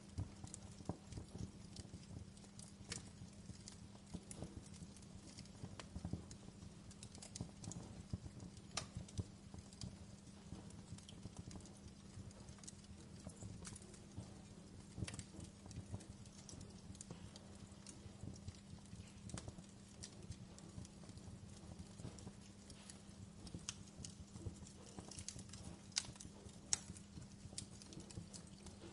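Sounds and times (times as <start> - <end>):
fire pops and snaps: 0.0 - 28.9
low steady rumble: 0.0 - 28.9
wood fire crackling: 0.0 - 28.9.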